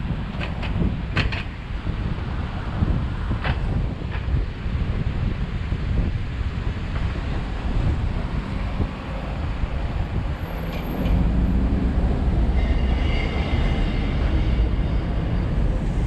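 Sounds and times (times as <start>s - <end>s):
tyre and wind road rumble: 0.0s - 16.0s.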